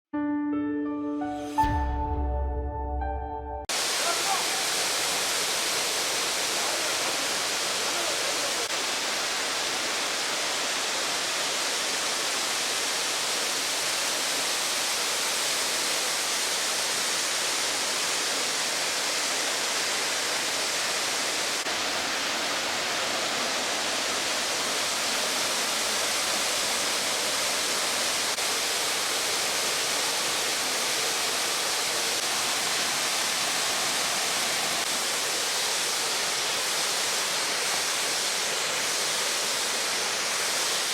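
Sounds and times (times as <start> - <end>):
waterfall crashing: 3.7 - 40.9.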